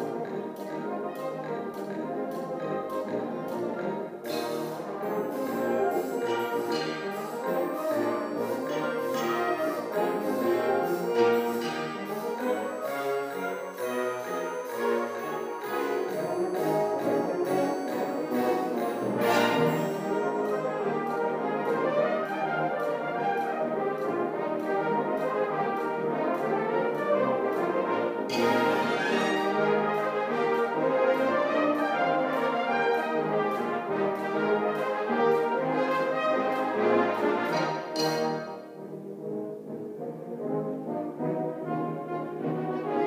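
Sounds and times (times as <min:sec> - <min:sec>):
ticking percussion beat: 0:00.0 - 0:38.8
saxophones and brass playing: 0:00.0 - 0:43.0.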